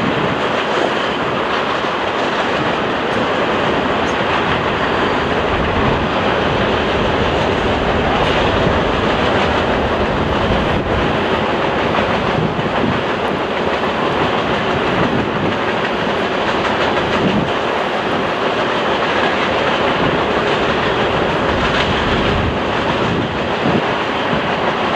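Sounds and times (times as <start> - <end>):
train wheels rolling on rails: 0.0 - 24.9.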